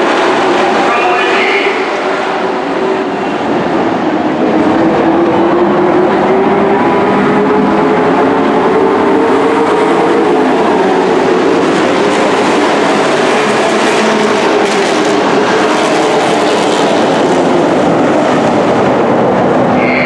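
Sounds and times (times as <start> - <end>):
race truck engines droning: 0.0 - 20.0.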